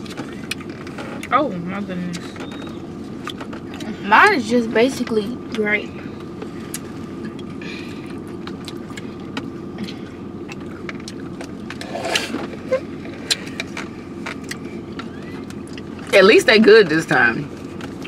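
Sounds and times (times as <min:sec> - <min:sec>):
car engine and ventilation humming: 0:00.0 - 0:18.0.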